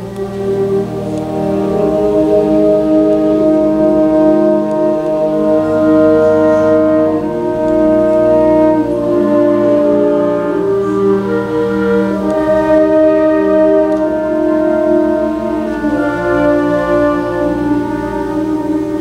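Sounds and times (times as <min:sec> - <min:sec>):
low bass notes: 0:00.0 - 0:19.0
wind orchestra playing chords: 0:00.0 - 0:19.0.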